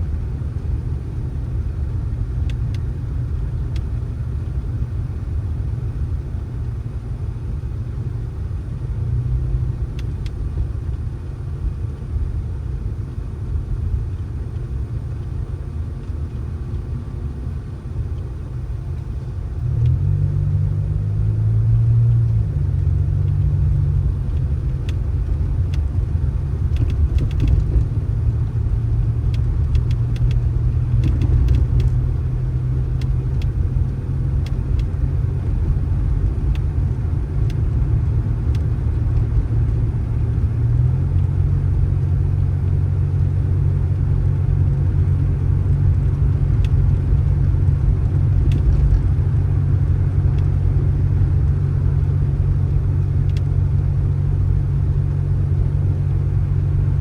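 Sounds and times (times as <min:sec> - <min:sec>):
road noise: 0:00.0 - 0:57.0
vehicle engine rumbling: 0:00.0 - 0:57.0.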